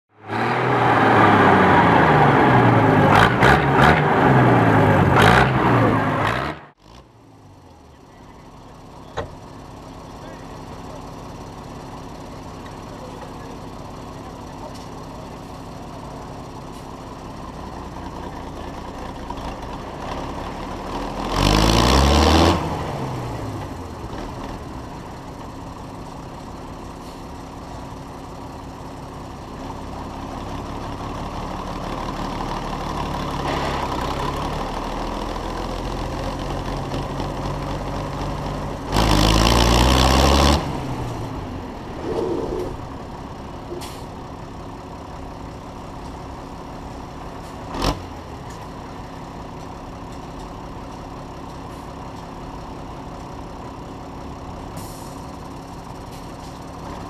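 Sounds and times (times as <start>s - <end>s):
tractor diesel engine revving: 0.1s - 7.2s, 8.5s - 49.5s.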